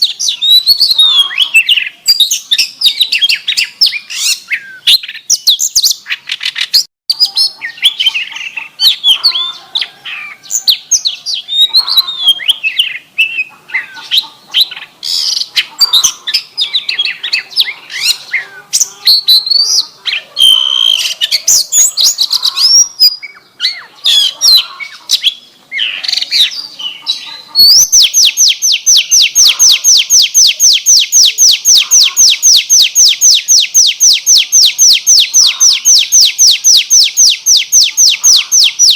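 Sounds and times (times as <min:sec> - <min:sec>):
bird rapid even trill: 0:00.0 - 0:38.9
songbird singing varied song: 0:00.0 - 0:38.9.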